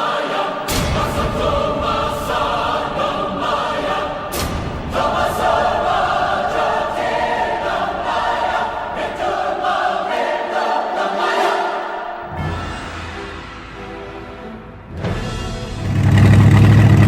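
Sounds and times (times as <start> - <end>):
choir singing held chords: 0.0 - 15.9.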